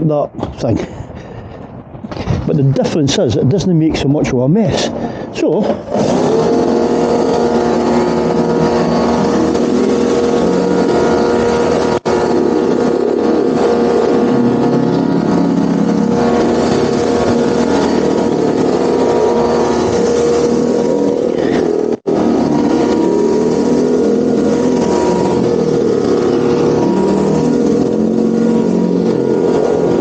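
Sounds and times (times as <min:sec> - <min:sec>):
pressure washer motor whining: 0:00.0 - 0:30.0.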